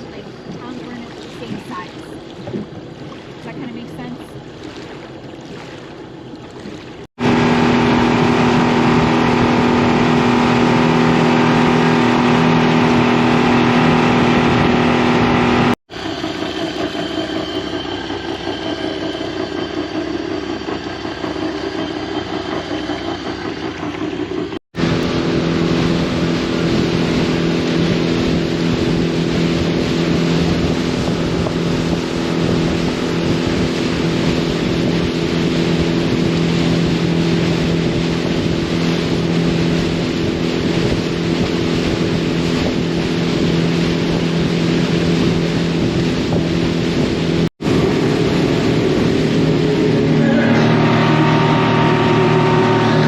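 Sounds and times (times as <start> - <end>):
boat engine droning: 0.0 - 53.0
rushing wind: 6.6 - 21.6, 24.2 - 53.0.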